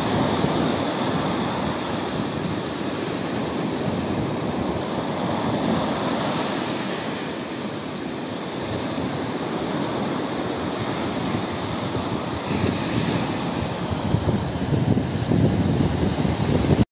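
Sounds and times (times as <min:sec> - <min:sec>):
wind buffeting microphone: 0:00.0 - 0:16.8.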